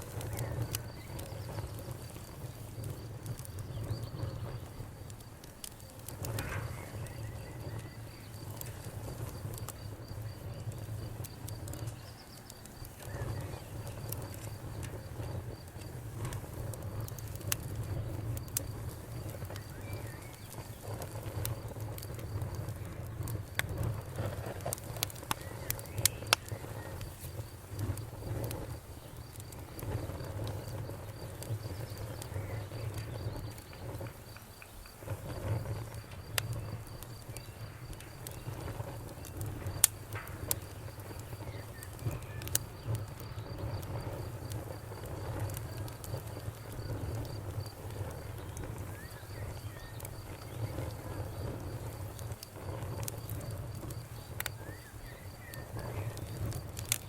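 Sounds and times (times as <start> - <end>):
campfire crackling and popping: 0.0 - 57.0
fire rumbling: 0.0 - 57.0.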